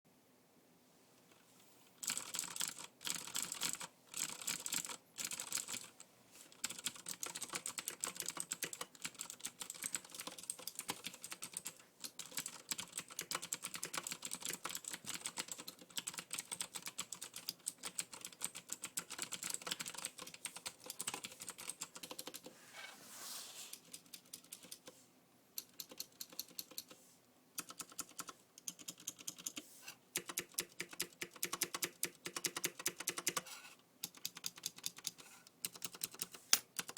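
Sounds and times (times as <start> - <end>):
mechanical keyboard typing: 2.0 - 22.5, 23.7 - 24.9, 25.6 - 27.0, 27.6 - 29.6, 30.2 - 36.9.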